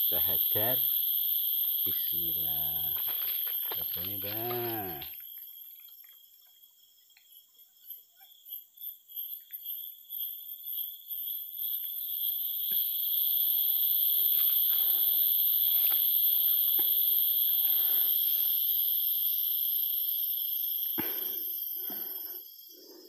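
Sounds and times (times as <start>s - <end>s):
high insect trill: 0.0s - 23.0s
pulsing insect drone: 0.0s - 23.0s.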